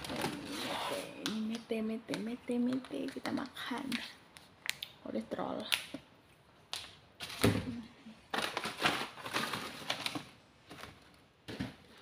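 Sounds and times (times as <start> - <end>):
plastic packets rustling and crinkling: 0.0 - 4.9, 6.7 - 12.0.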